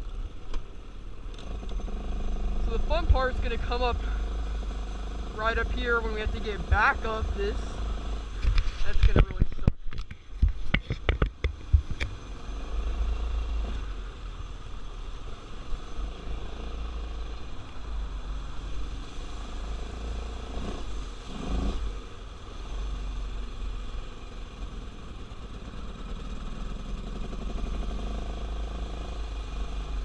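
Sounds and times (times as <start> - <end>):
atv engine rumbling: 0.0 - 30.0.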